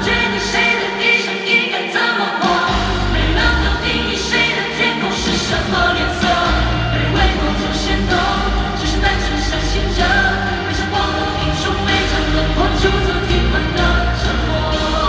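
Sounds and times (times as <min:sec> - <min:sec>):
live pop-rock band: 0:00.0 - 0:15.0
person singing: 0:00.0 - 0:15.0.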